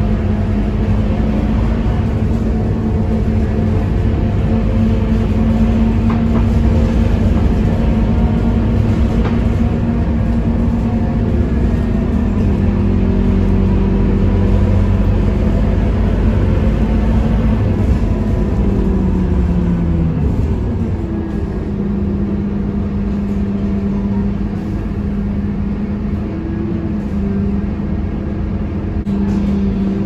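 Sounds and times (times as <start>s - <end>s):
bus diesel engine droning: 0.0s - 30.0s
road rumble: 0.0s - 30.0s.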